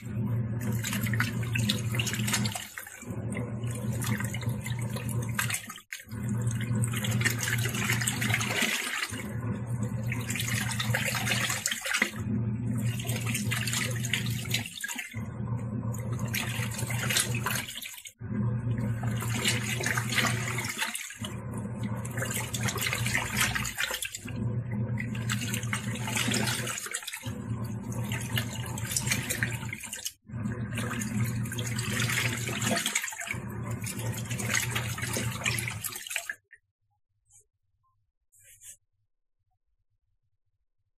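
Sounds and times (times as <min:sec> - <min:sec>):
washing machine motor humming: 0:00.0 - 0:36.3
water churning in tub: 0:00.0 - 0:36.5.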